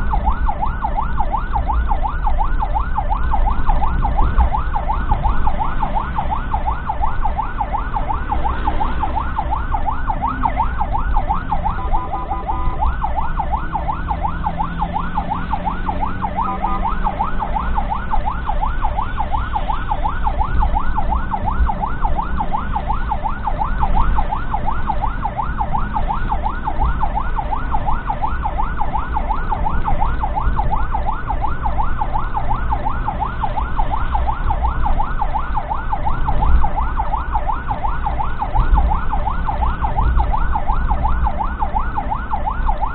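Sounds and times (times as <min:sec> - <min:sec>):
ambulance siren yelping: 0:00.0 - 0:42.9
engine and road rumble: 0:00.0 - 0:42.9
steady siren tones: 0:00.0 - 0:42.9.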